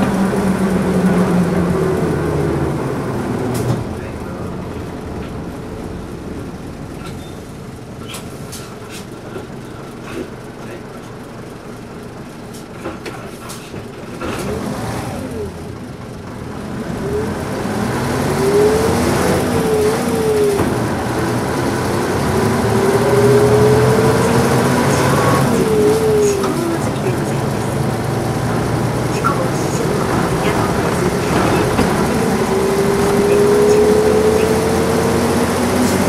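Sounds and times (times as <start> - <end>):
bus diesel engine revving: 0.0 - 36.0.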